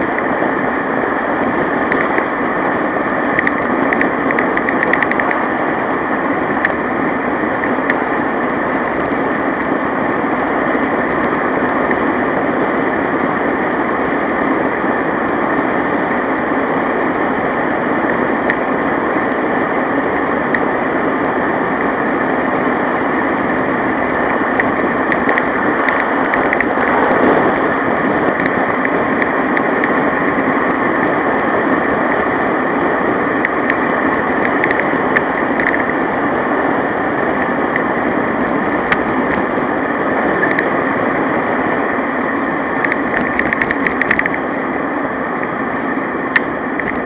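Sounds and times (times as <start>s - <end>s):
wind and road noise: 0.0s - 47.0s.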